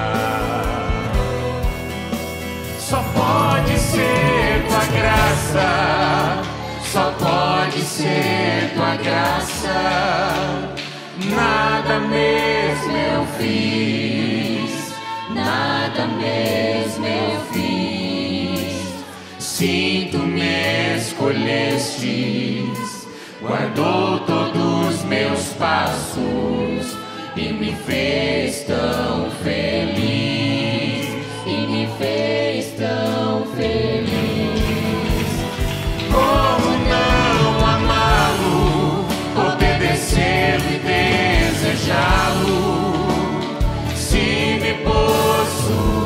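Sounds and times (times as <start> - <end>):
choir singing a hymn: 0.0 - 46.0.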